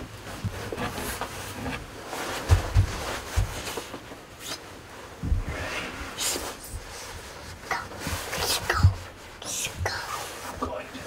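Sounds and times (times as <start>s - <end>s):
faint rustling: 0.0s - 11.0s.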